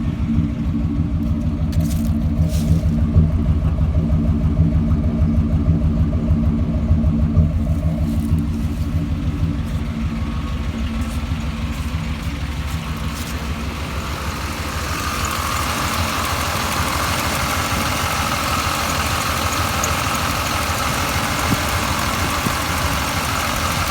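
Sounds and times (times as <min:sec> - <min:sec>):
pickup engine idling: 0:00.0 - 0:23.9.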